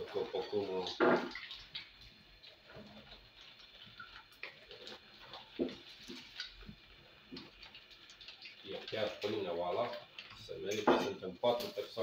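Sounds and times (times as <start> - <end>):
wooden spoon stirring in metal pot: 0.0 - 12.0.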